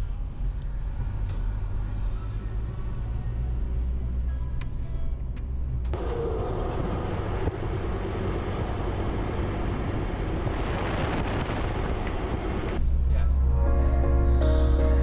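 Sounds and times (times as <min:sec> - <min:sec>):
vehicle road and wind noise: 0:00.0 - 0:14.7.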